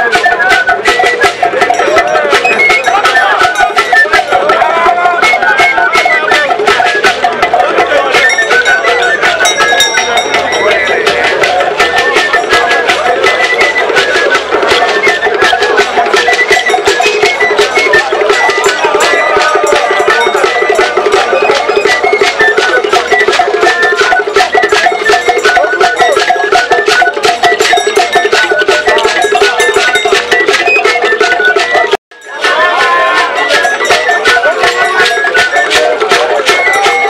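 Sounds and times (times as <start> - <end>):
wood-block clicks: 0.0 - 32.0, 32.9 - 37.0
fast dense percussion: 0.0 - 37.0
metal cowbell beat: 0.0 - 37.0.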